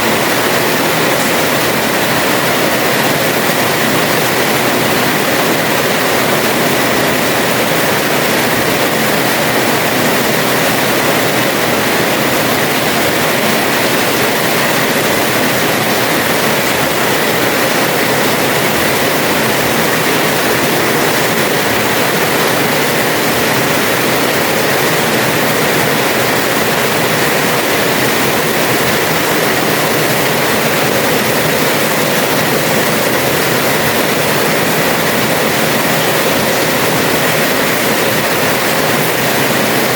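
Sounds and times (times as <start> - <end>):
heavy rain on a terrace: 0.0 - 39.9.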